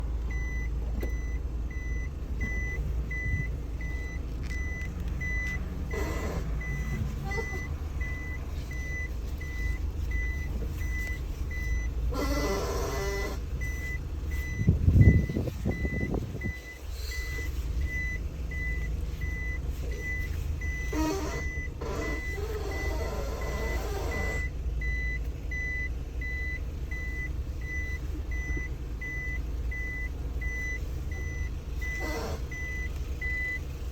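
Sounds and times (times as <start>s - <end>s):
steering creaking groans: 0.0s - 24.8s, 26.7s - 33.9s
van engine idling: 0.0s - 33.9s.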